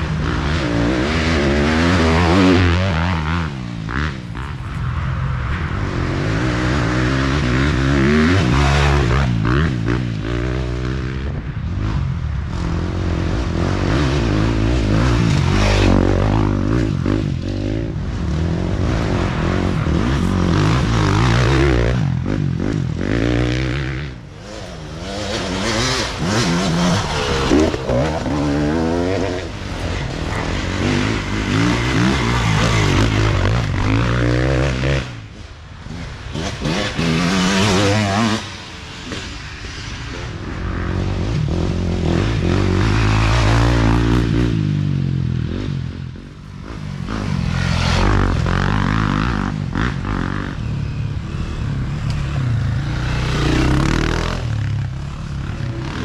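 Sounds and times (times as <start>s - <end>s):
dirt bike engine revving: 0.0s - 4.7s, 5.8s - 56.0s.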